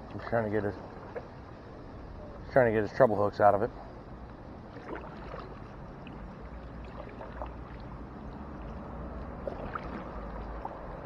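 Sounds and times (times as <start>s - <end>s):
steady low rumble: 0.0s - 11.0s
water lapping against hull: 0.0s - 11.0s.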